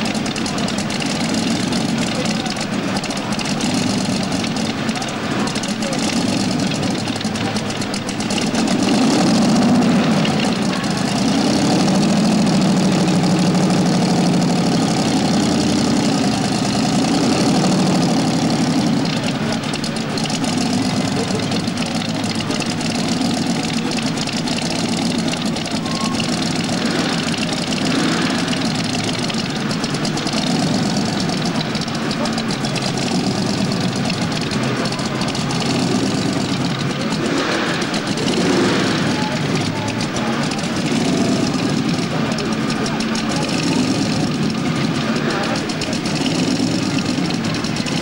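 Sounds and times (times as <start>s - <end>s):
supercharged engine revving and idling: 0.0s - 48.0s.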